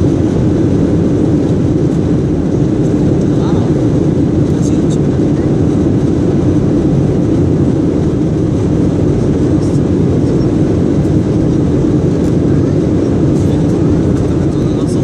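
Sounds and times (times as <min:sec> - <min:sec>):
jet engine noise: 0:00.0 - 0:15.0
rushing airflow: 0:00.0 - 0:15.0.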